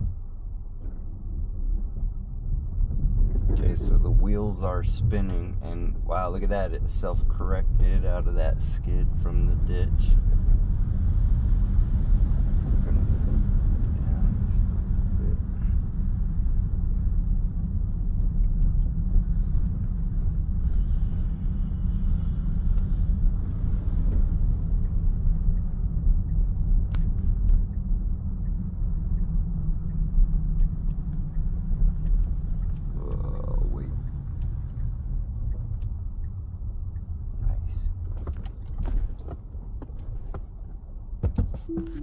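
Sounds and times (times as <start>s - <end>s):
tyres rumbling on snowy road: 0.0s - 42.0s.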